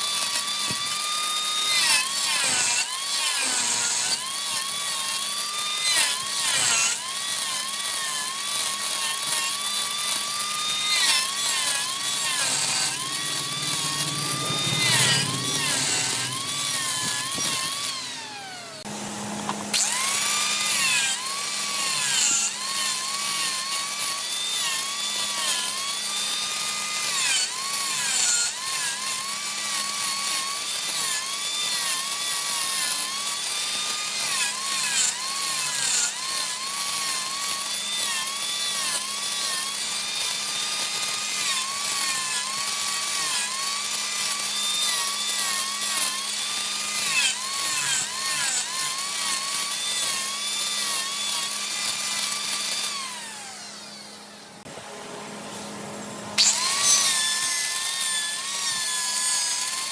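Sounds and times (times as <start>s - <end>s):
power tool whining on wood: 0.0s - 59.9s.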